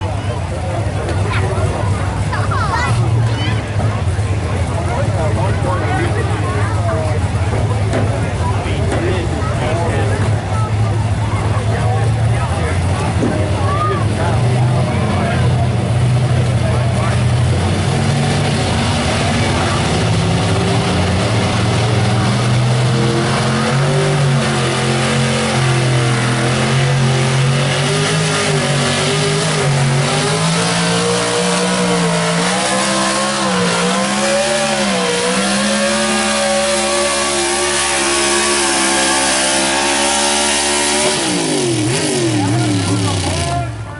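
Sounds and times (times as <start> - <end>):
truck engine at full throttle: 0.0 - 43.9.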